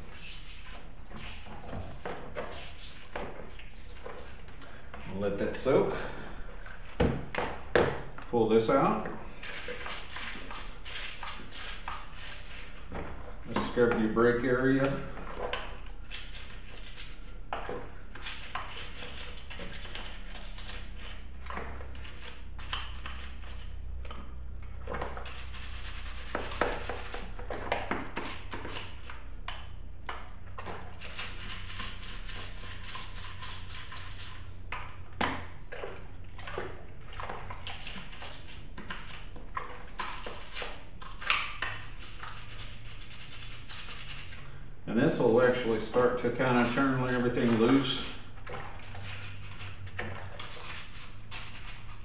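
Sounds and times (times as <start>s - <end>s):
brush scrubbing: 0.0s - 6.0s, 8.8s - 23.8s, 25.0s - 29.3s, 30.6s - 34.5s, 35.7s - 44.4s, 45.2s - 52.0s.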